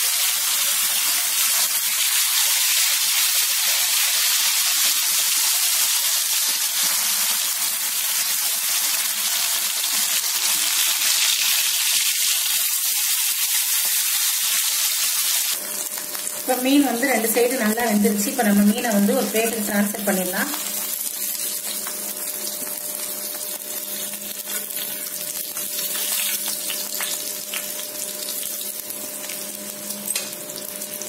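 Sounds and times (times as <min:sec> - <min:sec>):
fish sizzling in hot oil: 0:00.0 - 0:18.4, 0:20.6 - 0:31.0.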